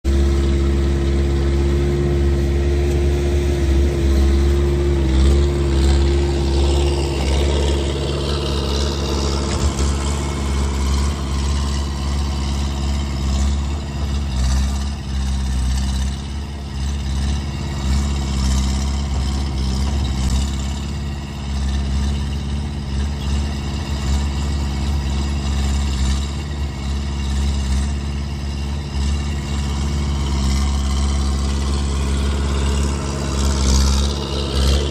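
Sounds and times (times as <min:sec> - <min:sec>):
skid steer engine running loud: 0:00.0 - 0:34.9.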